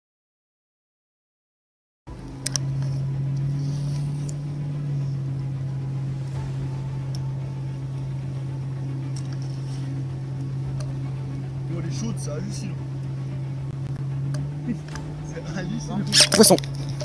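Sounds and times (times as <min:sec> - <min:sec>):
boat motor humming: 0:02.1 - 0:17.0.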